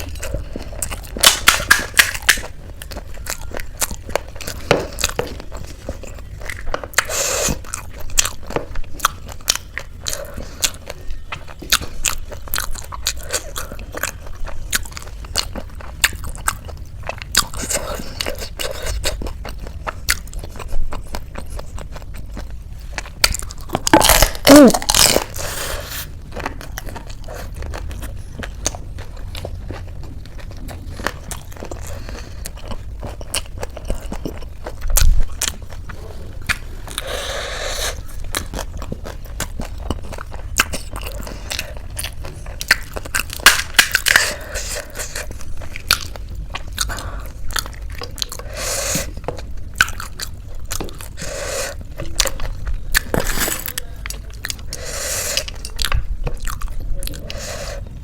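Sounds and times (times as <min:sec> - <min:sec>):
biting and crunching food: 0:00.0 - 0:58.0.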